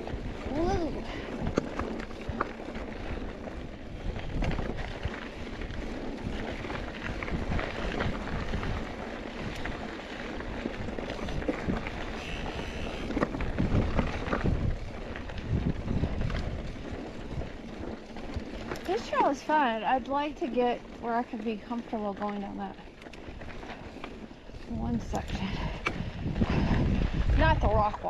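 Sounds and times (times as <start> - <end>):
wind on microphone: 0.0 - 20.7, 23.3 - 28.0
bike rattling over bumps: 0.0 - 28.0
bike tyres crunching over rock: 0.0 - 28.0.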